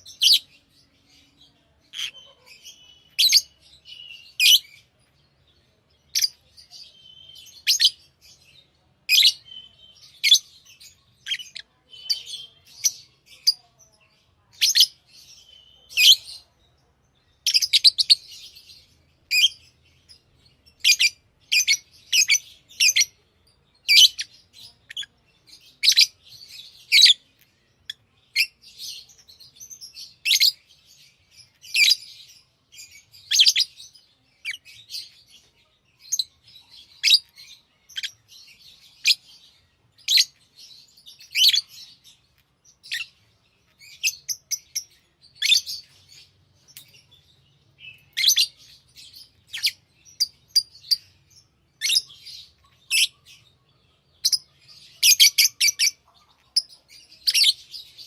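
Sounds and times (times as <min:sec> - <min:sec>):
lovebirds chirping: 0:00.0 - 0:58.0.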